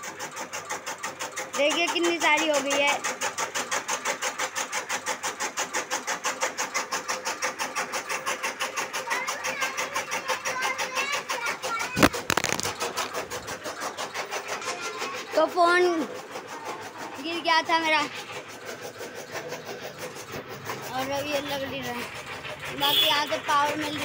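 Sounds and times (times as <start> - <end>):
chaff cutter chopping stalks: 0.0 - 24.0.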